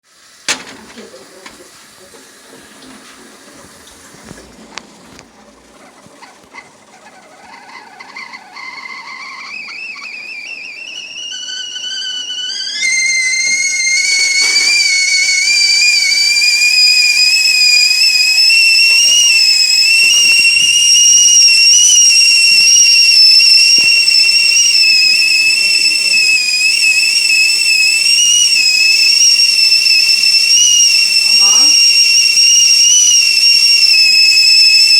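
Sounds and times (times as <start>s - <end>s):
tea kettle whistling: 0.0s - 34.9s.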